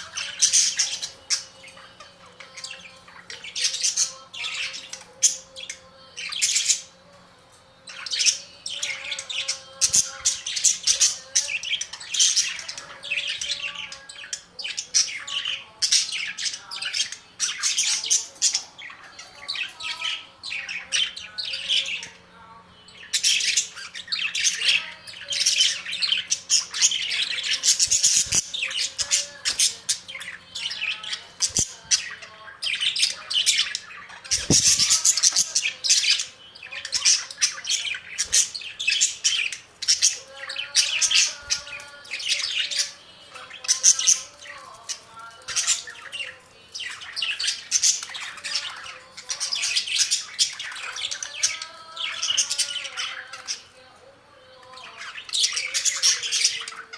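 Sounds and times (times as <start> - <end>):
budgerigars chattering and squawking: 0.0 - 7.0, 7.9 - 53.9, 54.5 - 56.9.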